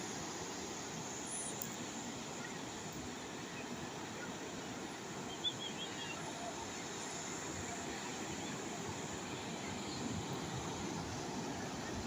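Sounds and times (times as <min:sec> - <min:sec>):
calm sea waves washing: 0:00.0 - 0:12.0.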